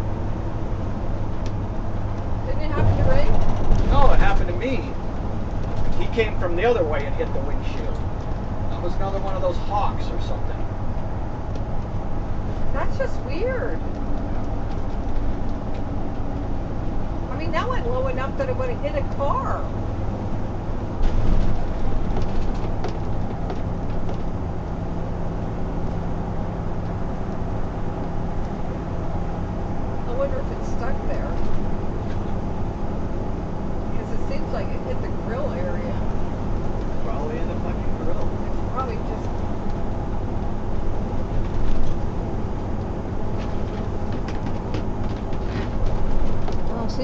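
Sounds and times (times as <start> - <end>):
car cabin road and engine noise: 0.0 - 47.0.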